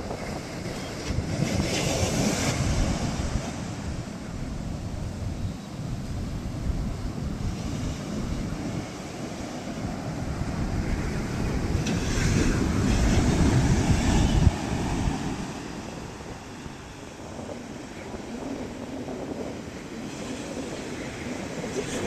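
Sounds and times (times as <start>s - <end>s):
ocean waves crashing: 0.0s - 22.0s
wind rumble on microphone: 0.0s - 22.0s.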